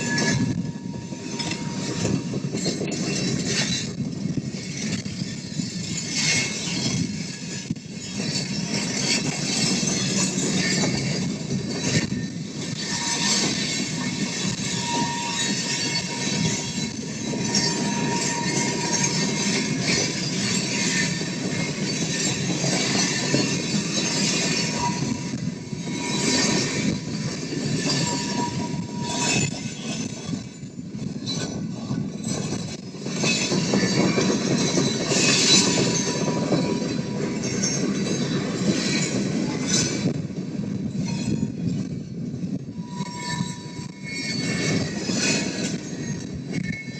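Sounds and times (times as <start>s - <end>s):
railcar clanks: 0.0s - 46.9s
train wheels rumbling: 0.0s - 46.9s
wheel squeal: 0.0s - 46.9s.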